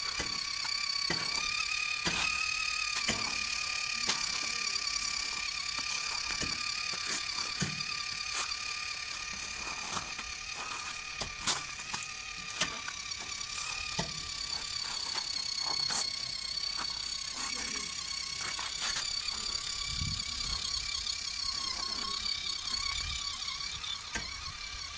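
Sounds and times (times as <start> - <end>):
small electric motor whining: 0.0 - 24.9
wheels rattling over gravel: 2.8 - 23.3.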